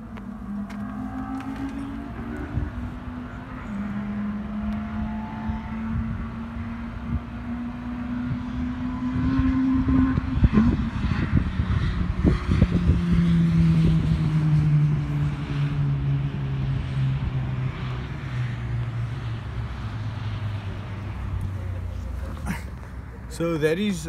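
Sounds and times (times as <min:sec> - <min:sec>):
race cars passing at full speed: 0:00.0 - 0:24.0.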